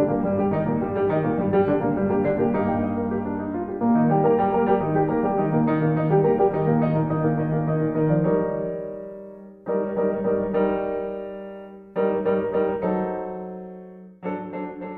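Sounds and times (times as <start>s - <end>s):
solo piano music: 0.0s - 14.9s.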